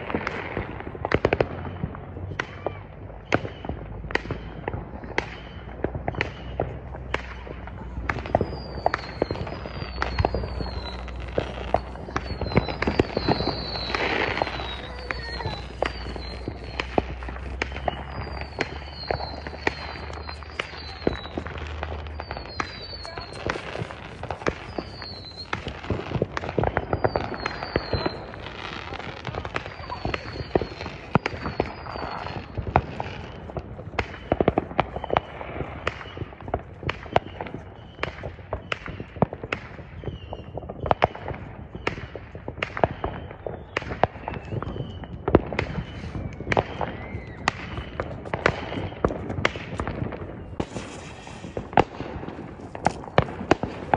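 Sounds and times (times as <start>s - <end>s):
fireworks popping and banging: 0.0s - 53.9s
fireworks whistling: 0.0s - 53.9s.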